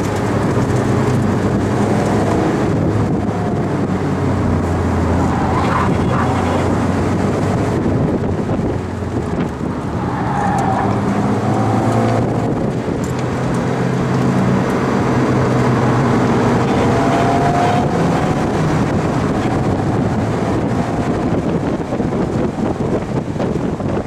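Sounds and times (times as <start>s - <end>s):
car engine running hard: 0.0s - 24.0s
wind buffeting microphone: 0.0s - 24.0s.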